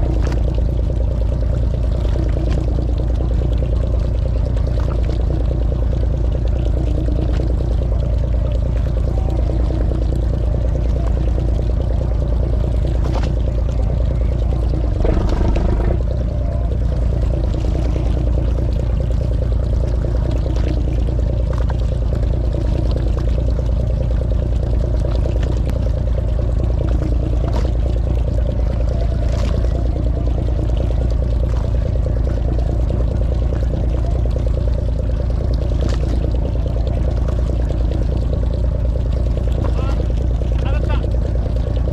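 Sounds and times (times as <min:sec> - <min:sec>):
boat engine running: 0:00.0 - 0:41.9
water rushing along hull: 0:00.0 - 0:41.9.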